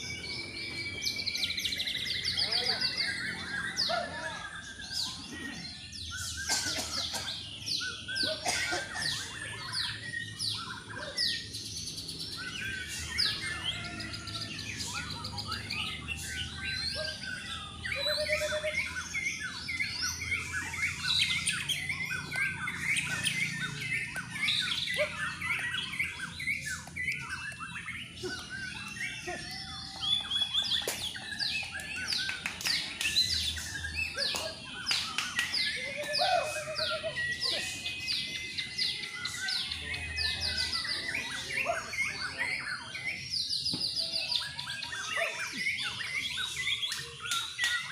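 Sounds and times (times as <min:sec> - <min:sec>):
many birds singing: 0:00.0 - 0:47.9.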